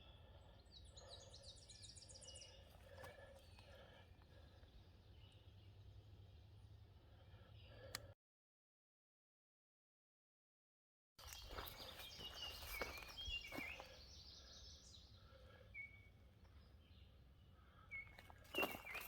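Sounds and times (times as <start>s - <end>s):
faint birds chirping: 0.0s - 8.2s, 11.2s - 19.0s.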